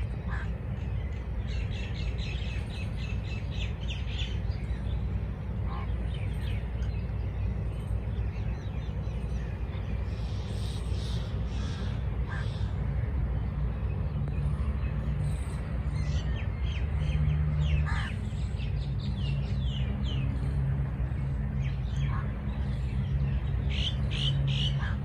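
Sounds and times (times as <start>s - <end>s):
birds chirping: 0.0s - 25.0s
harsh bird calls: 0.0s - 25.0s.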